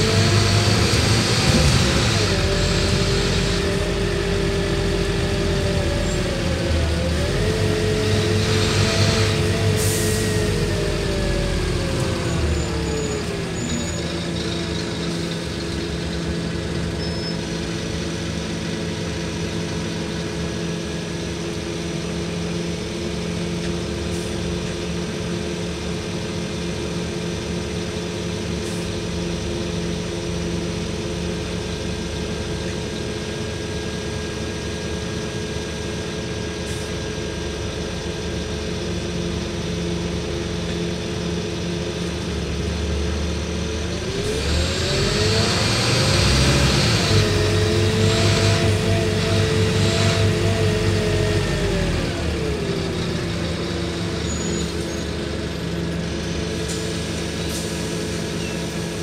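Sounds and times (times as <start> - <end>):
bus drivetrain whine: 0.0 - 59.0
diesel engine idling: 0.0 - 59.0.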